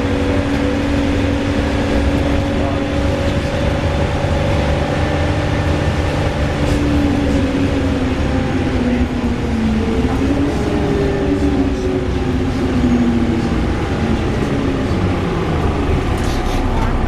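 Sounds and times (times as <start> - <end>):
bus engine drone: 0.0 - 17.0
bus whirring whine: 0.0 - 17.0.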